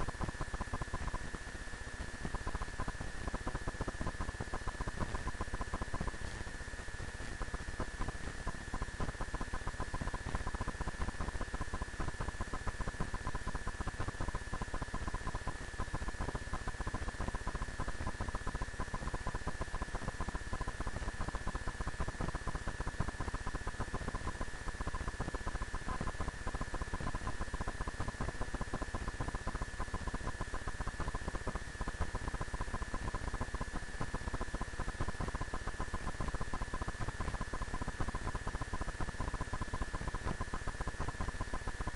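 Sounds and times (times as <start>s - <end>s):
constant high whine: 0.0s - 41.9s
recording hiss and crackle: 0.0s - 41.9s.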